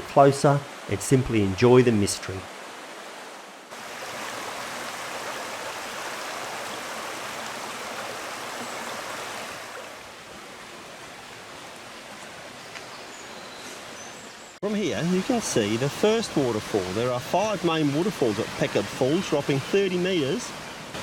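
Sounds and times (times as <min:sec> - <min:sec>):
stream and waterfall rushing: 0:00.0 - 0:21.0.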